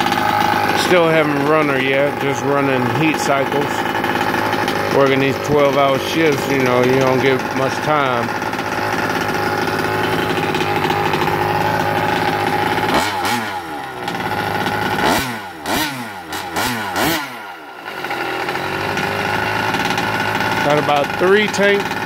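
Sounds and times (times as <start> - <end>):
small engine idling and revving: 0.0 - 22.0.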